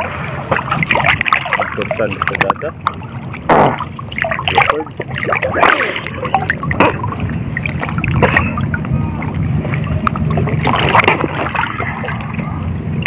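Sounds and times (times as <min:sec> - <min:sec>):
water sloshing around wading person: 0:00.0 - 0:13.0.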